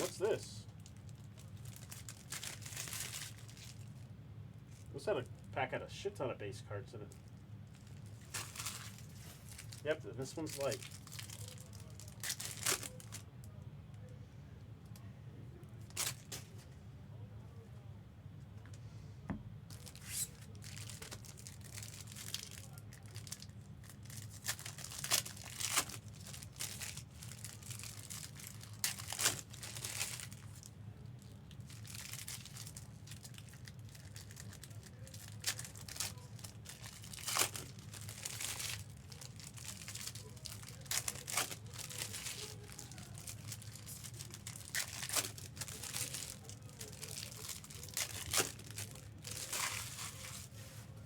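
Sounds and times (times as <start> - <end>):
wrappers crinkling and tearing: 0.0 - 4.0, 7.1 - 13.3, 15.8 - 16.6, 19.7 - 51.0
steady low hum: 0.0 - 51.0.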